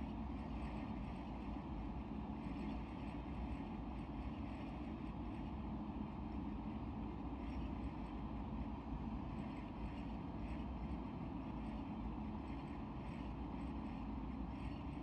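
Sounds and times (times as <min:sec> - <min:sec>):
aquarium air pump humming: 0:00.0 - 0:15.0.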